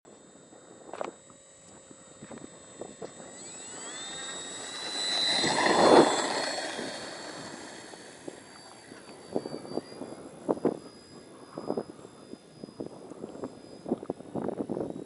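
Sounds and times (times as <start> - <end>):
model airplane motor whine: 0.1 - 15.0.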